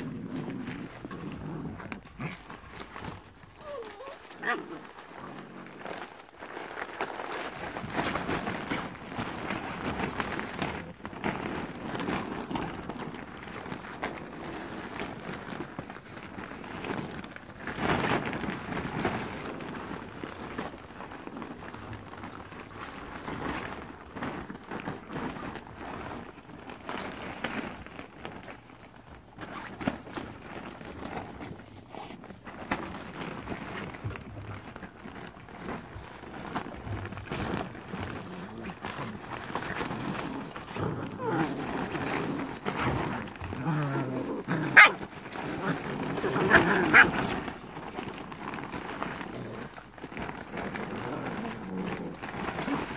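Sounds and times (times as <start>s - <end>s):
fabric tunnel rustling and crinkling: 0.0s - 52.9s
puppies scrabbling and bumping: 0.0s - 52.9s.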